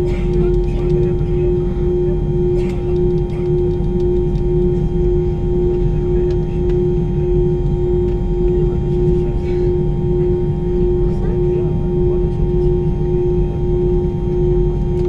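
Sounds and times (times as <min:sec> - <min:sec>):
airliner engines idling drone: 0:00.0 - 0:15.0.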